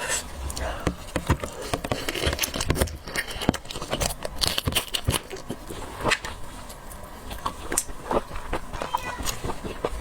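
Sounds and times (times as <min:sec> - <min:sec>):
crackly chewing clicks: 0:00.5 - 0:10.0.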